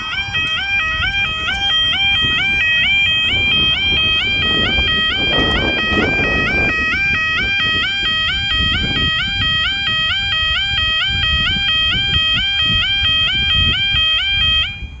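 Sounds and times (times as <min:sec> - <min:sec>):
level crossing alarm warbling: 0:00.0 - 0:15.0.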